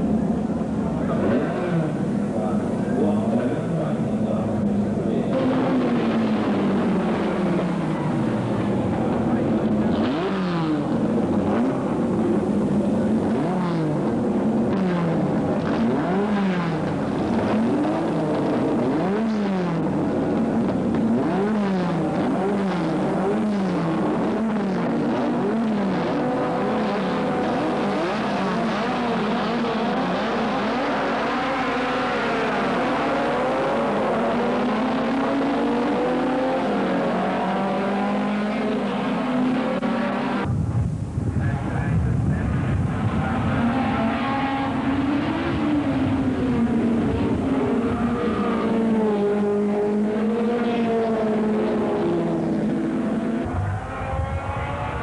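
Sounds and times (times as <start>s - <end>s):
racing car engines revving: 0.0s - 40.5s, 41.4s - 55.0s.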